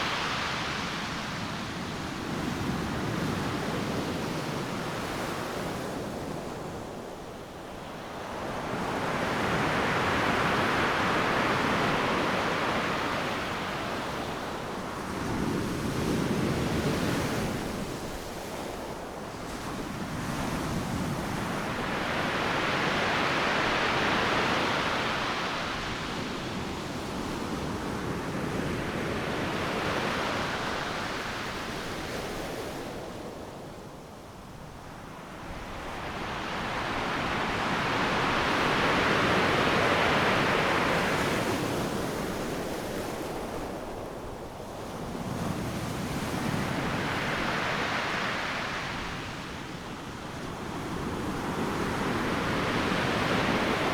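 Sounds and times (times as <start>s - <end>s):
waves crashing on beach: 0.0s - 5.5s, 7.2s - 33.0s, 34.6s - 53.9s.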